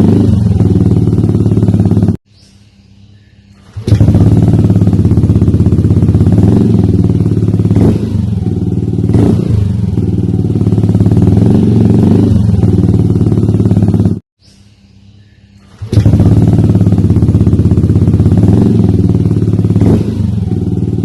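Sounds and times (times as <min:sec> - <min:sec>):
scooter engine running loud: 0:00.0 - 0:02.2, 0:03.6 - 0:14.2, 0:15.7 - 0:21.0.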